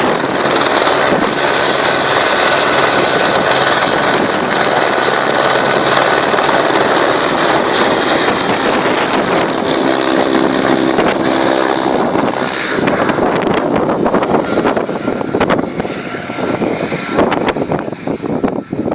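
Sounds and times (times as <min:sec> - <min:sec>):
helicopter rotor and engine: 0:00.0 - 0:18.9
pitched hum: 0:00.0 - 0:18.9.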